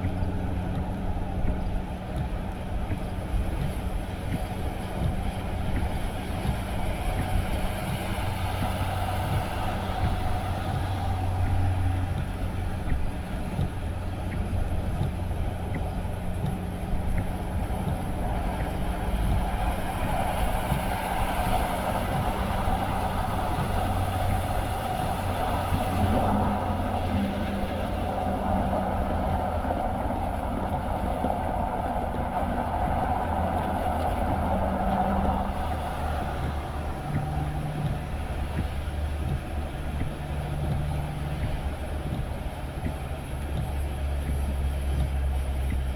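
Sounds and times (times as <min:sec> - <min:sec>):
car engine hum: 0:00.0 - 0:45.9
tyre noise on road: 0:00.0 - 0:45.9.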